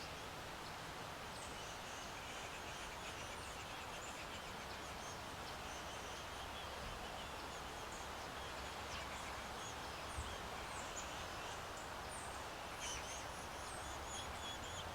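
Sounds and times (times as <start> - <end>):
steady background hiss: 0.0 - 14.9.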